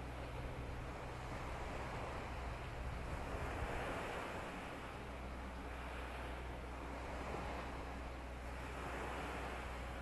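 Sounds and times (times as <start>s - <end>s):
surf washing on beach: 0.0s - 10.0s.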